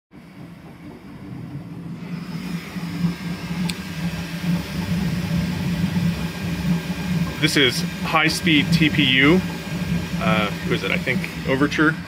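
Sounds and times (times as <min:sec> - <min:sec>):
stepper motors humming: 0:00.1 - 0:12.0
fan hiss: 0:01.9 - 0:12.0.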